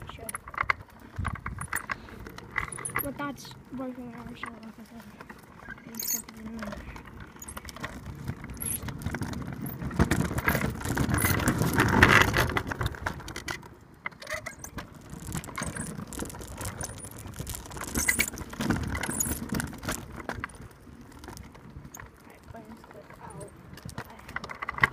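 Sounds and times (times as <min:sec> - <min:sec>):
scooter frame rattling: 0:00.0 - 0:24.9
scooter wheels rumbling on tarmac: 0:00.0 - 0:24.9.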